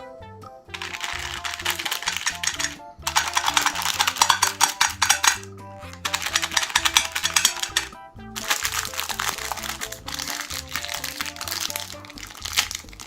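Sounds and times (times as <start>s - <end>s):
background music: 0.0s - 13.0s
meat grinder crunching candies: 0.7s - 13.0s.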